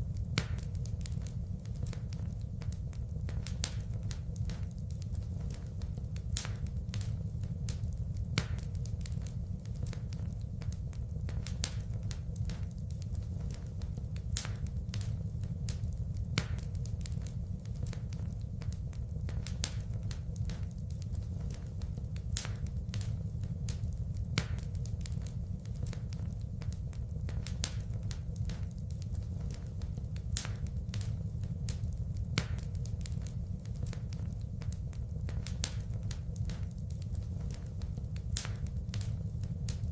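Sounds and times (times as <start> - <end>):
fire crackling and popping: 0.0 - 39.9
fire rumbling in fireplace: 0.0 - 39.9.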